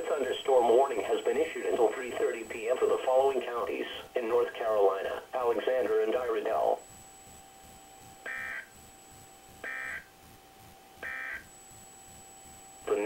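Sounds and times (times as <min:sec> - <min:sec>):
short data bursts over speakers: 0:00.0 - 0:13.0.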